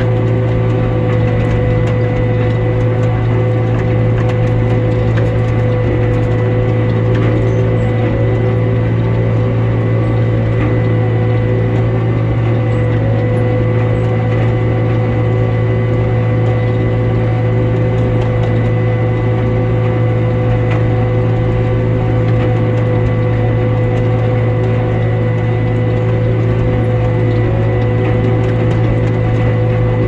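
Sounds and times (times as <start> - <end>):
tractor and hay machinery running: 0.0 - 30.0.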